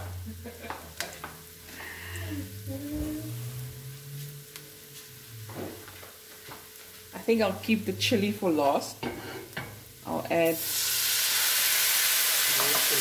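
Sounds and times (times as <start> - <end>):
onion and spices sizzling in oil: 0.0 - 13.0.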